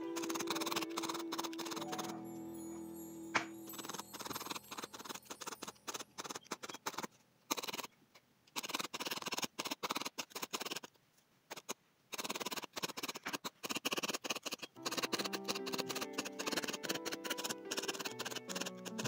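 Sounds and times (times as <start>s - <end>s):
felting needle ticking: 0.0s - 19.0s.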